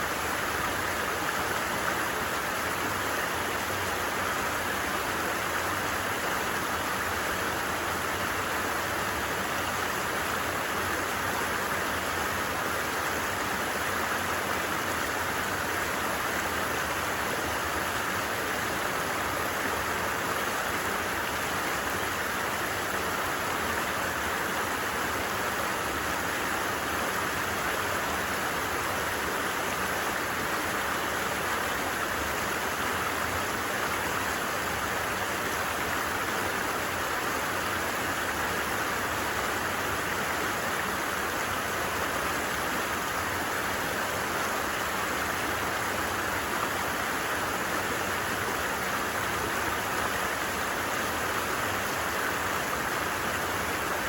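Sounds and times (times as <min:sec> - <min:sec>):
creek flowing: 0:00.0 - 0:54.0.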